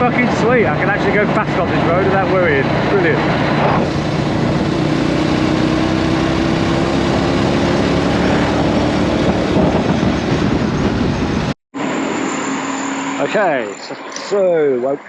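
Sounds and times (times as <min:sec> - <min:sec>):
motorbike engine drone: 0:00.0 - 0:15.0
wind and road noise: 0:00.0 - 0:15.0.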